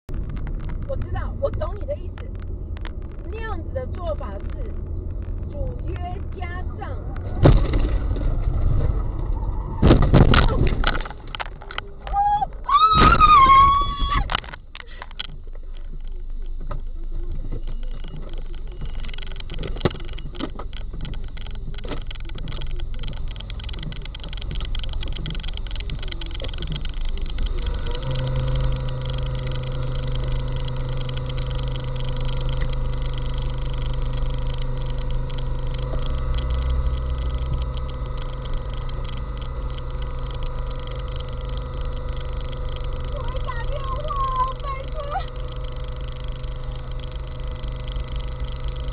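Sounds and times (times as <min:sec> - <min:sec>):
steady low hum with higher tone: 0:00.1 - 0:48.9
vehicle engines idling: 0:00.1 - 0:48.9.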